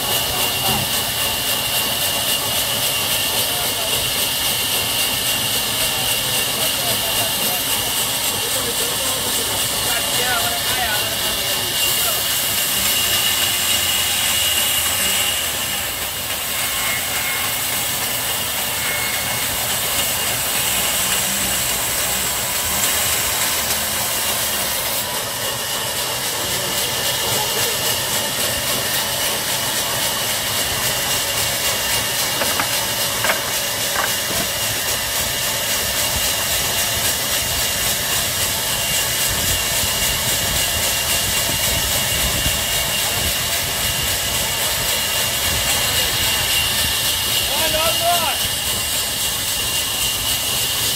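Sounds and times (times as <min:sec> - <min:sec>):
band saw blade hissing through wood: 0:00.0 - 0:50.9
sawmill machine running: 0:00.0 - 0:50.9.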